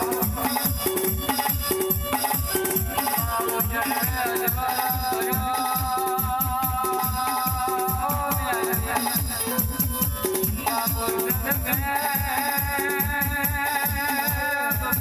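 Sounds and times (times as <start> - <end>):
heavy bass drum beat: 0.0 - 15.0.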